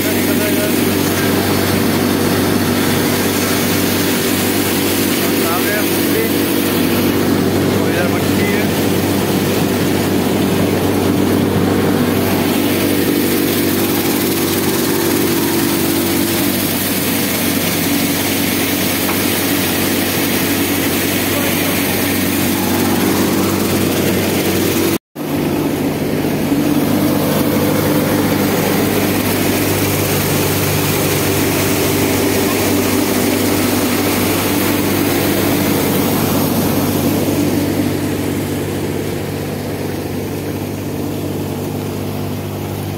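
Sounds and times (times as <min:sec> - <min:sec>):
tractor and thresher drone: 0:00.0 - 0:42.9.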